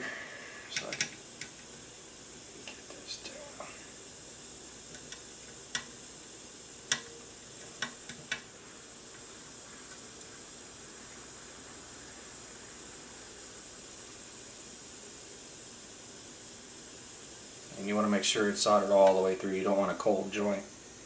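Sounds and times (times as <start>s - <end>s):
gas soldering iron hissing: 0.0s - 21.0s.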